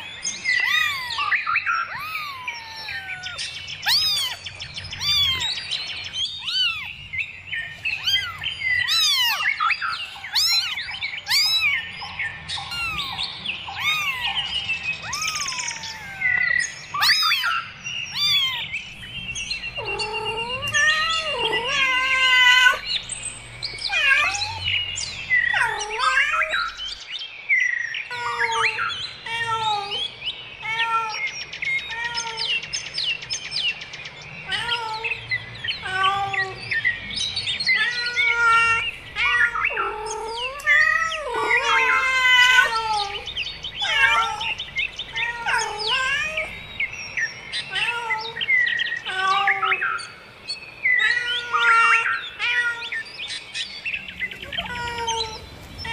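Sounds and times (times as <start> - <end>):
small birds chirping: 0.0 - 55.9
cat meowing: 0.5 - 12.0, 12.6 - 18.8, 19.7 - 23.0, 23.7 - 26.8, 28.1 - 32.6, 34.4 - 35.2, 35.8 - 36.7, 37.7 - 46.6, 47.5 - 50.1, 51.0 - 53.1, 54.2 - 55.9.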